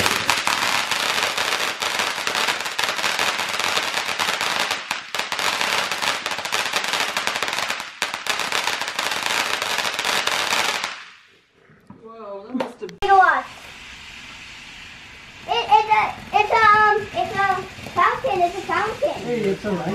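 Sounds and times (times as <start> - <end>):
firework fountain crackling: 0.0 - 11.4, 12.6 - 19.9.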